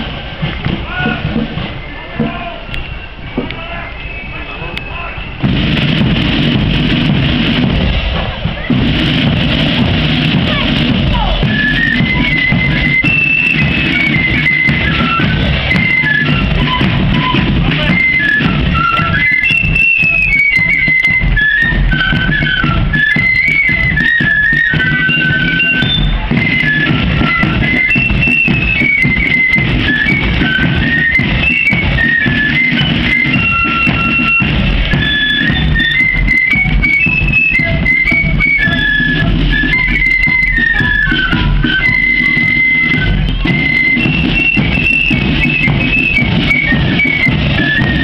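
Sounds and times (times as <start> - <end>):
drum beat: 0.0 - 2.7, 5.3 - 48.0
flute melody: 0.0 - 48.0.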